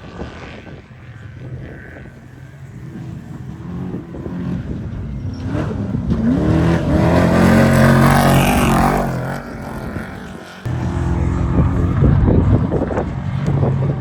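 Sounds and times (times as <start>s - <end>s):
race vehicle engine approaching: 0.0s - 14.0s.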